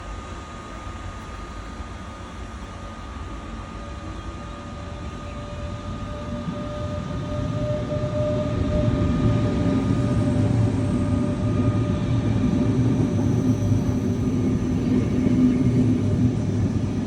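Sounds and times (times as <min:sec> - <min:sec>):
train rumble: 0:02.8 - 0:17.0.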